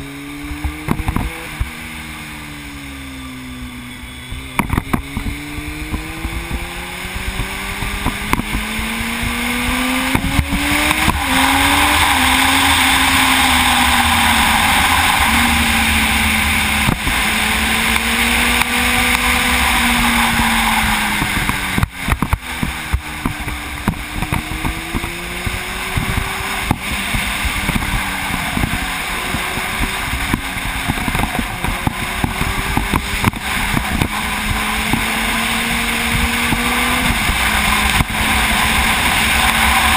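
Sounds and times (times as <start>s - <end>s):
motorcycle engine revving: 0.0s - 39.9s
wind rush over microphone: 4.3s - 39.9s.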